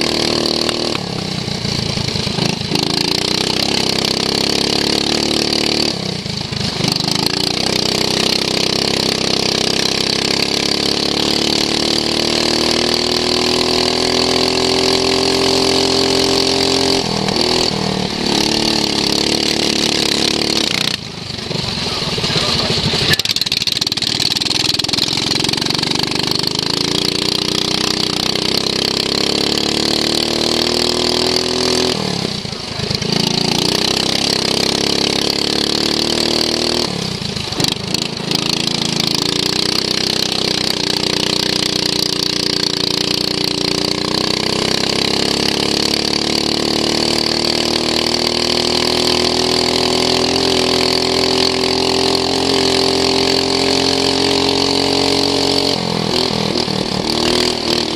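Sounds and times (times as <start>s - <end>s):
lawn mower engine running hard: 0.0s - 57.9s.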